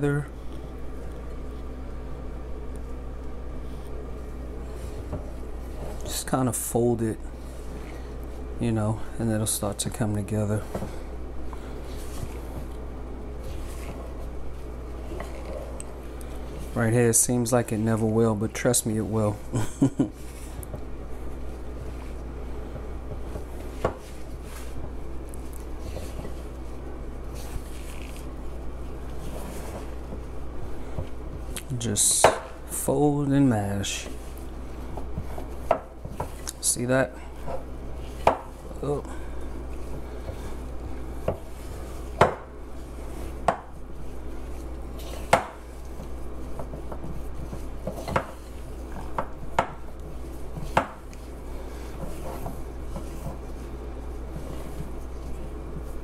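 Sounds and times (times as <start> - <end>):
steady low hum: 0.0 - 56.0
spatula mashing dough: 9.3 - 19.5, 20.1 - 56.0.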